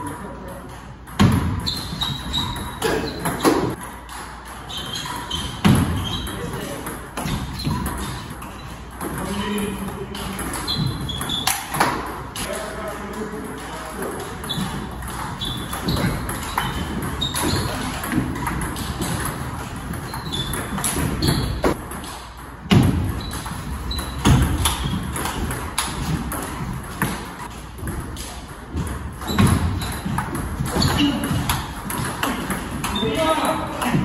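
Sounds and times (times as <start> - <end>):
table tennis ball bouncing on table: 0.0 - 34.0
table tennis ball hitting paddles: 0.0 - 34.0.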